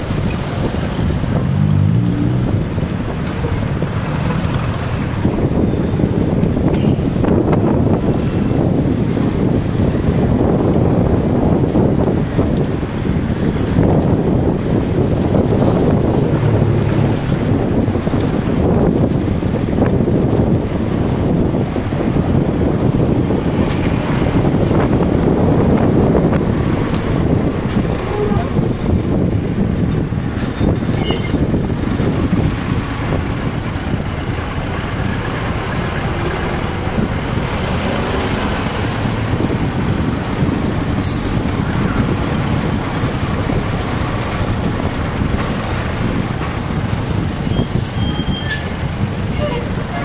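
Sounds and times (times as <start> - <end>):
street traffic: 0.0 - 50.0
wind rumble on microphone: 0.0 - 50.0.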